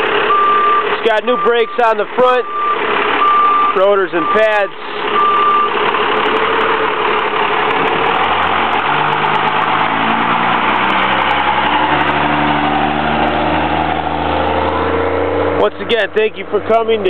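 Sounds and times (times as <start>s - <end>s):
diesel truck driving past: 0.0s - 17.0s.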